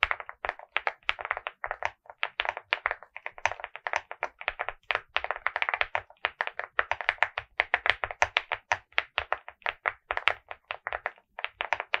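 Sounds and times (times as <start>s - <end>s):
fast typing on mechanical keyboard: 0.0s - 12.0s.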